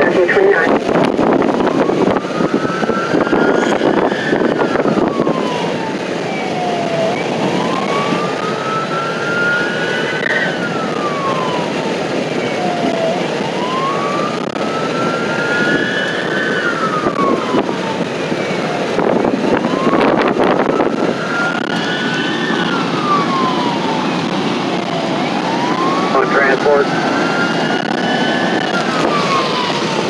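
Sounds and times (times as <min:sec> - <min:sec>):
emergency siren wailing: 0:00.0 - 0:30.0
vehicle engine and road noise: 0:00.0 - 0:30.0.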